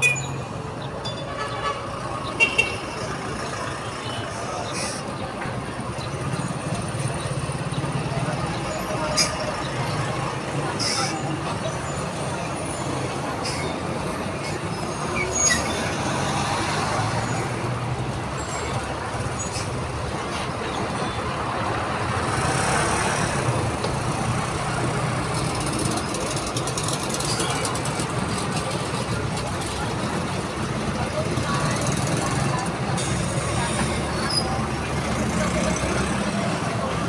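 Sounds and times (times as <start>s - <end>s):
passing road traffic: 0.0s - 37.0s
minibus engine running: 2.9s - 37.0s.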